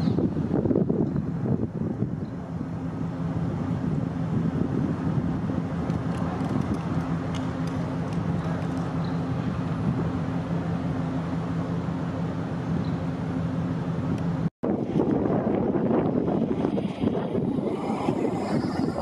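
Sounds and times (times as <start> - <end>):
engine humming: 0.0 - 19.0
outdoor rumble: 0.0 - 19.0.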